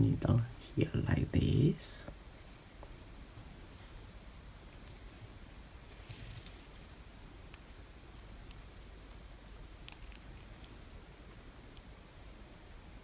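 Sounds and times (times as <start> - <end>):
soft rustle: 1.6 - 12.0.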